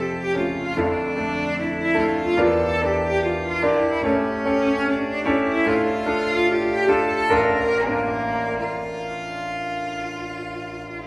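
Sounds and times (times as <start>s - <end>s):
held violin notes: 0.0s - 11.0s
low cello line: 0.0s - 11.0s
piano: 0.0s - 11.0s.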